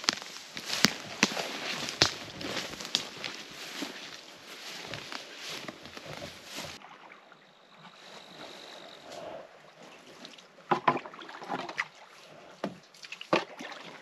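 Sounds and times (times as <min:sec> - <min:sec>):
paddle in water: 0:00.0 - 0:14.0.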